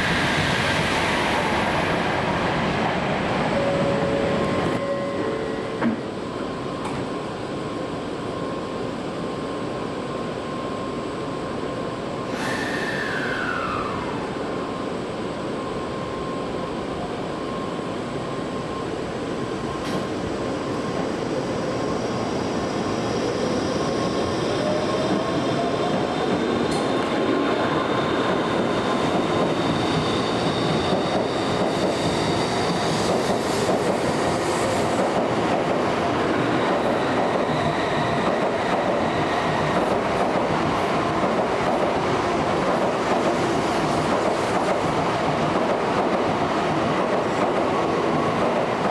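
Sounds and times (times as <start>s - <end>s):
train wheel and rail noise: 0.0s - 48.9s.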